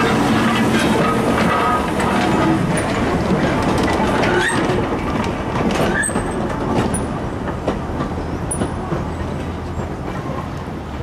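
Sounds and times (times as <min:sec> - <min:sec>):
wagon wheels clicking over rail joints: 0:00.0 - 0:11.0.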